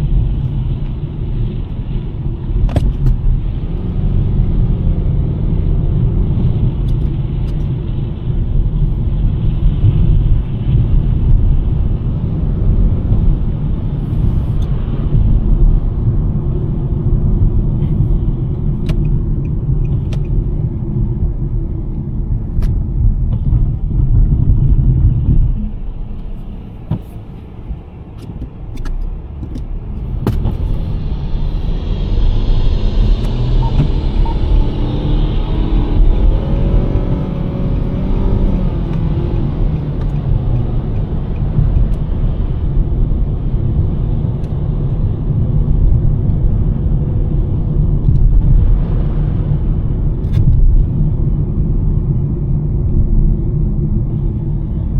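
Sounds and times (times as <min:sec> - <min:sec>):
tyre and road noise: 0:00.0 - 0:54.9.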